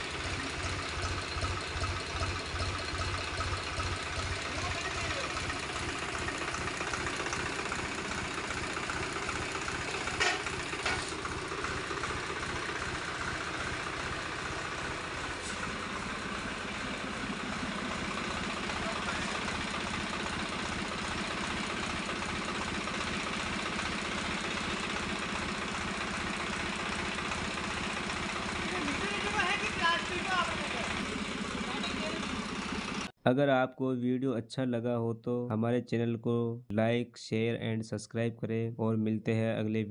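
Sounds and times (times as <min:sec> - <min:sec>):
tractor diesel engine idling: 0:00.0 - 0:33.2.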